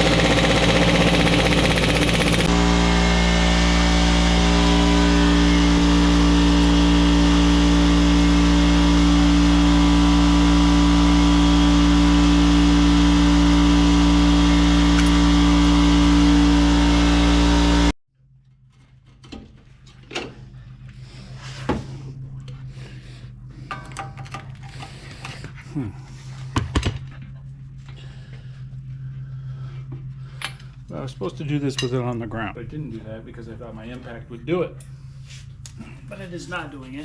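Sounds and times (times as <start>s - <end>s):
engine running steadily: 0.0s - 17.9s, 19.8s - 37.0s.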